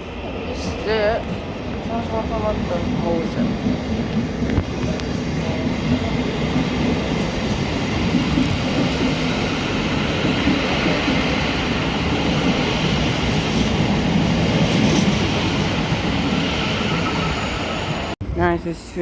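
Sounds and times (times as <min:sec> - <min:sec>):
train wheels rumbling on rail: 0:00.0 - 0:18.8.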